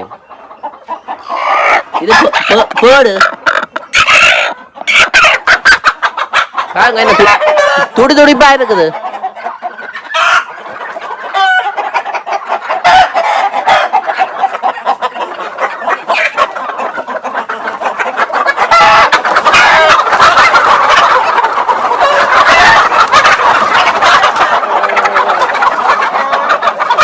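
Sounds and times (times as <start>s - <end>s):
chickens clucking and squawking: 0.0s - 27.0s.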